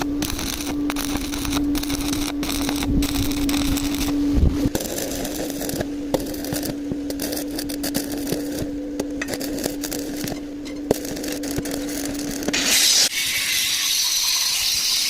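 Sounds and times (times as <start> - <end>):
welding arc buzzing: 0.0 - 15.0
welding crackles and pops: 0.0 - 15.0.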